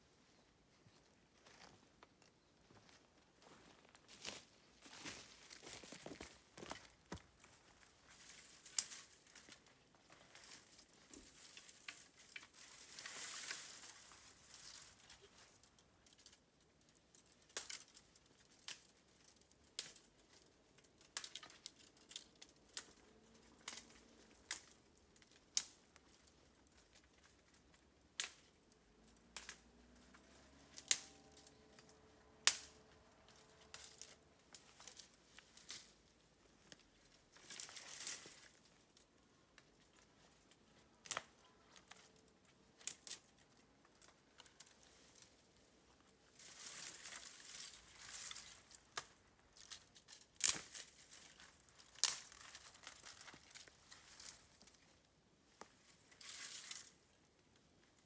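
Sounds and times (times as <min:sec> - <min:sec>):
bamboo crackling in campfire: 0:04.9 - 0:58.0.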